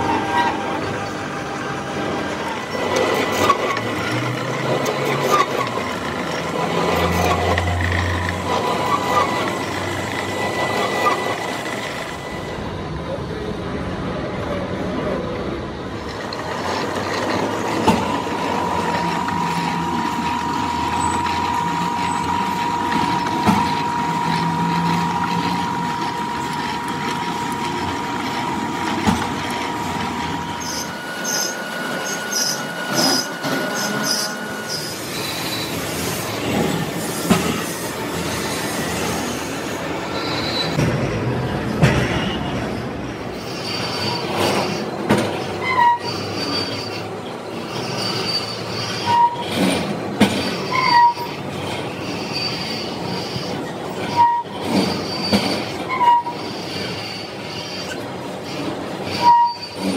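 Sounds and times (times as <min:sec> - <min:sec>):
high squeal: 0:00.0 - 0:12.8, 0:15.9 - 0:40.8, 0:42.0 - 0:59.9
metallic machine noise: 0:00.0 - 0:13.7, 0:15.0 - 0:59.9.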